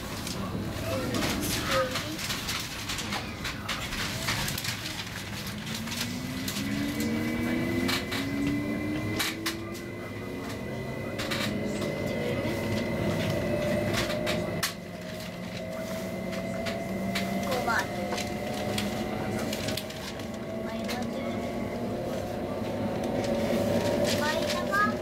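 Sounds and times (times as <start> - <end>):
train traction motors whining: 0.0 - 25.0.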